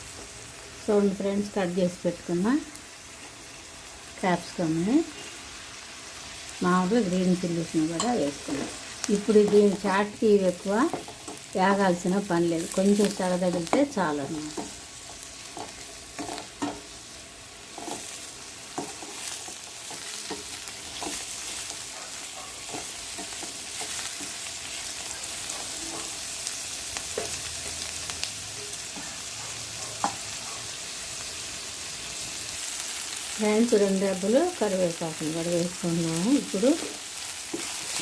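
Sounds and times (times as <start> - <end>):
vegetables sizzling in a pan: 0.0 - 38.0.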